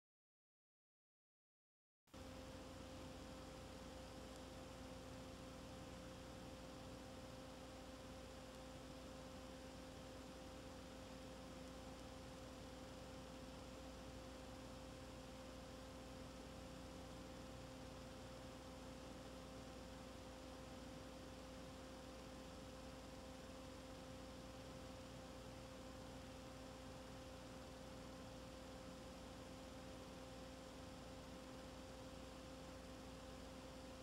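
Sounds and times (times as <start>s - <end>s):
electrical hum with faint hiss: 2.2s - 34.0s.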